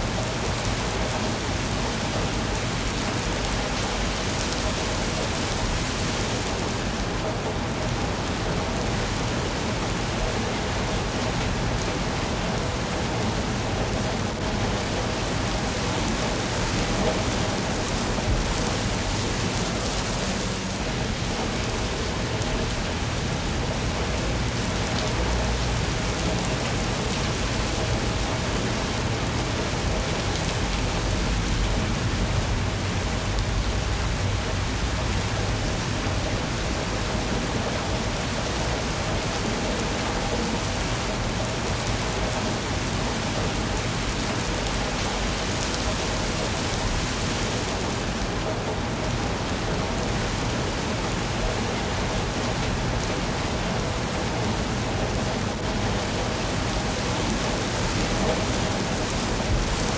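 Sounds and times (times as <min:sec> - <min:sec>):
rain hissing: 0:00.0 - 0:59.9.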